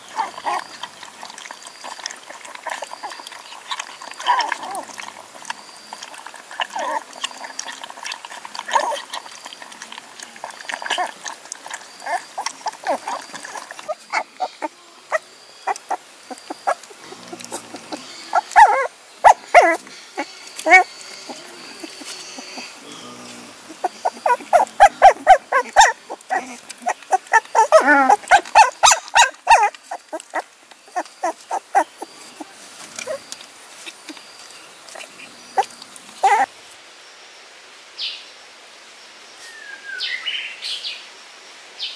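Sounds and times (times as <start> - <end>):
puppies whining and yelping: 0.0 - 22.9, 23.6 - 36.5.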